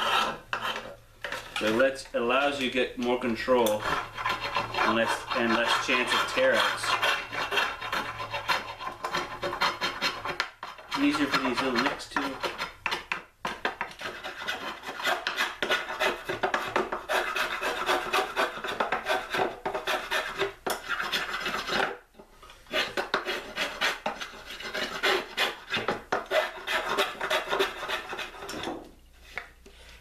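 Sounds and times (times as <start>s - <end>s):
spokeshave scraping wood: 0.0s - 1.9s, 2.5s - 22.0s, 22.6s - 30.0s.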